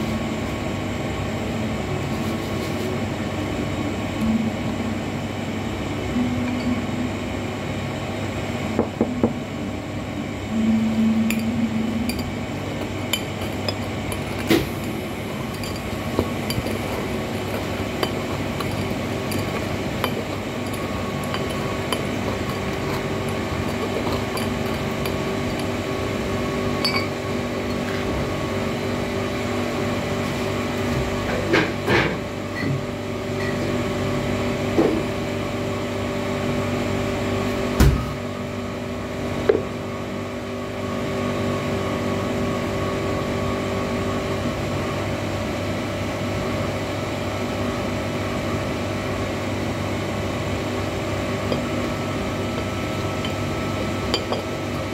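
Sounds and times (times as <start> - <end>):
appliance electrical hum: 0.0 - 54.9.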